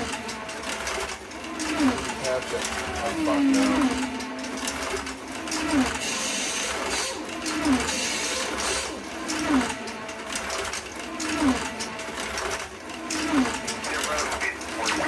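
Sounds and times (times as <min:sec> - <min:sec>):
slot car motors whining: 0:00.0 - 0:15.0.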